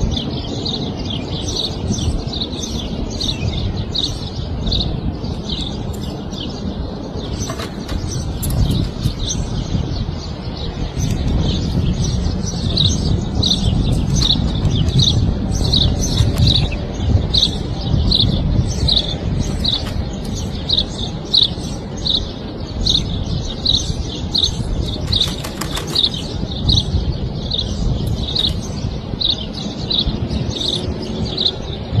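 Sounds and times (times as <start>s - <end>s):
low rumbling noise: 0.0s - 32.0s
small bird chirping: 0.2s - 32.0s.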